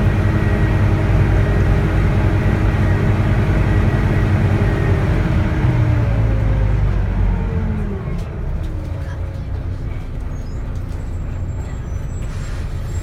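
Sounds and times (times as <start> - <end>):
bus diesel engine whining: 0.0 - 13.0.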